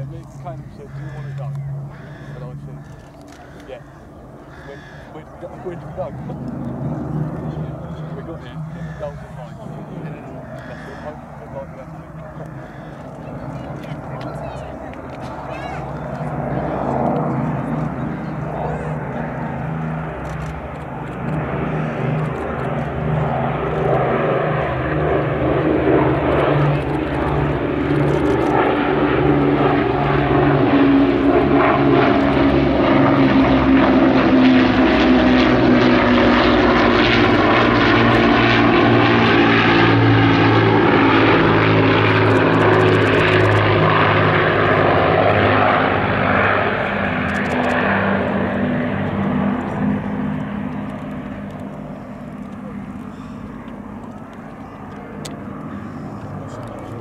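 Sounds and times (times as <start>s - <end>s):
piston aircraft engines droning: 0.0s - 57.0s.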